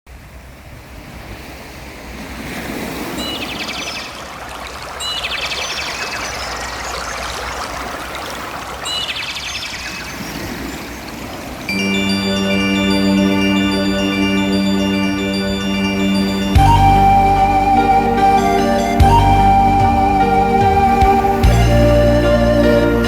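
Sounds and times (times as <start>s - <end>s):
sea waves washing against shore: 0.1s - 23.0s.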